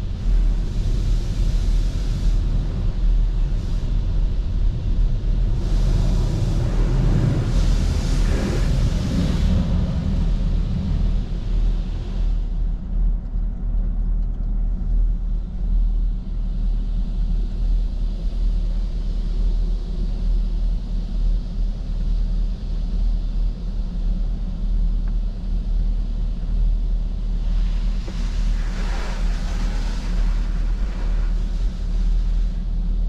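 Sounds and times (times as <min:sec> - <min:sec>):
car engine idling rumble: 0:00.0 - 0:33.0.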